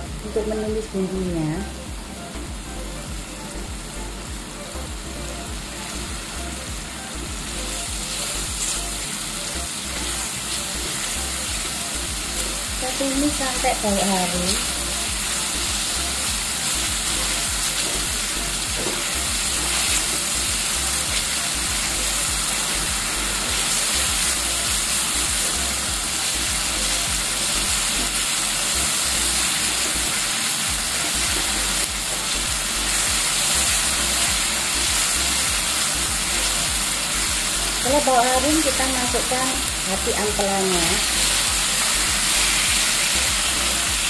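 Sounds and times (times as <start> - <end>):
spice paste sizzling in oil: 0.0 - 44.0.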